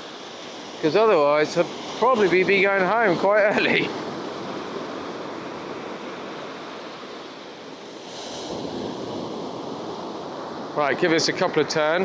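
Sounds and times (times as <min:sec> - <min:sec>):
waves washing on shore: 0:00.0 - 0:12.0.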